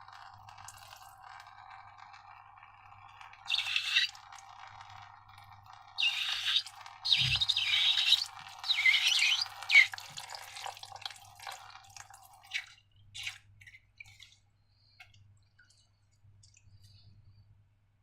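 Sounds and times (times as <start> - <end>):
wet slime pouring and dripping: 0.1 - 2.6, 3.2 - 17.0.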